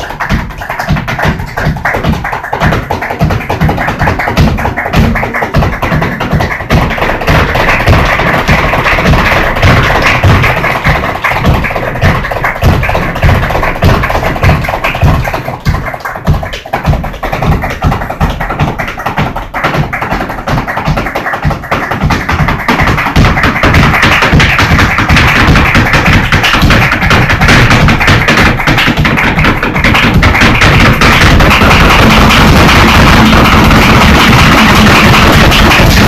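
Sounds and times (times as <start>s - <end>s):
dancer's shoes on wooden stage: 0.0s - 36.0s
flamenco guitar: 0.0s - 36.0s
hand-clapping: 0.0s - 36.0s.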